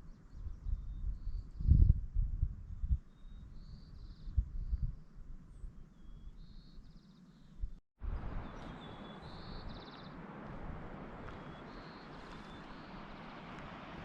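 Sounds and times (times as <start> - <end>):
songbird singing: 0.0 - 2.0, 2.7 - 14.0.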